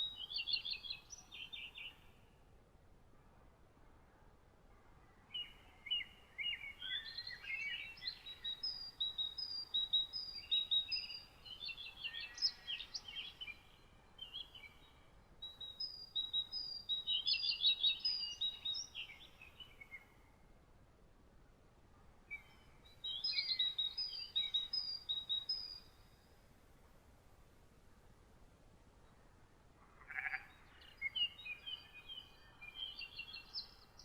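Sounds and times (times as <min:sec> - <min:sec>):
songbird singing: 0:00.0 - 0:02.5, 0:04.8 - 0:20.5, 0:22.2 - 0:27.4, 0:28.9 - 0:34.0
faint steady hiss: 0:00.0 - 0:34.0.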